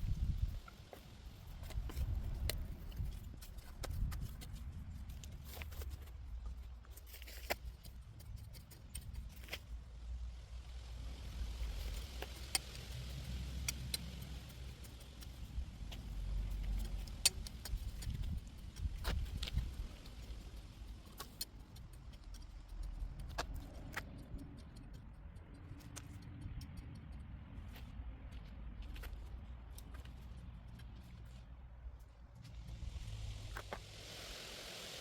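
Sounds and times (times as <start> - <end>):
wind rumble on microphone: 0.0 - 7.0, 7.9 - 34.8.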